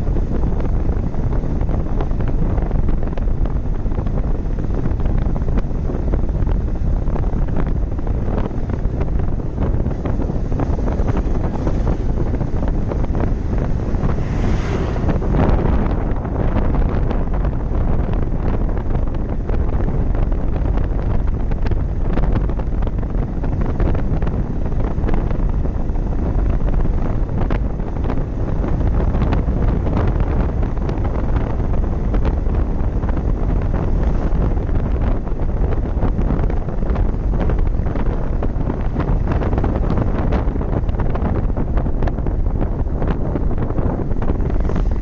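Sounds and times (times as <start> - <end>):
vehicle road noise: 0.0 - 45.0
wind rushing over microphone: 0.0 - 45.0.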